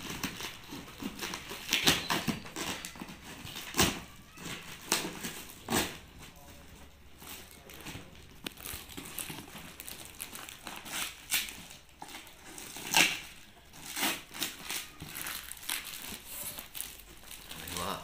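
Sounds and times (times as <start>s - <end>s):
tape and cardboard ripping: 0.0s - 6.4s, 7.2s - 18.0s.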